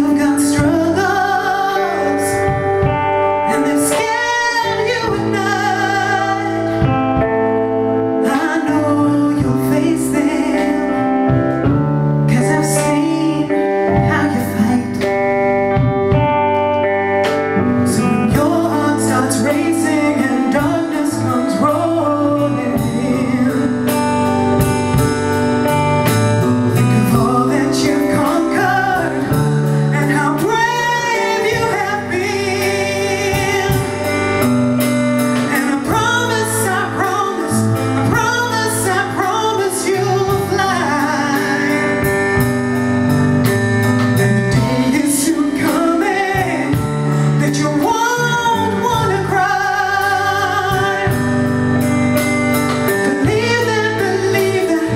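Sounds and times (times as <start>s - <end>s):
woman singing with vibrato: 0.0s - 15.9s, 17.8s - 25.0s, 25.6s - 42.8s, 44.1s - 54.9s
drum kit: 0.0s - 54.9s
electric bass: 0.0s - 54.9s
electric guitar: 0.0s - 54.9s.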